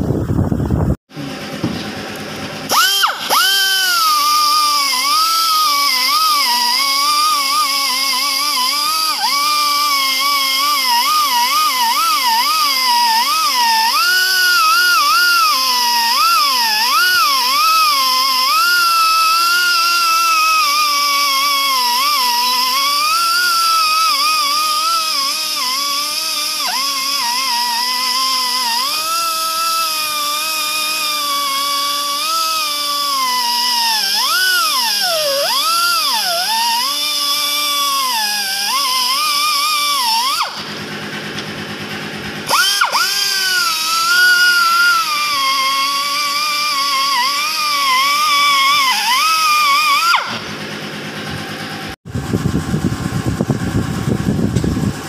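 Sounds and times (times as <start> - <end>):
pneumatic die grinder whining: 1.0 - 55.0.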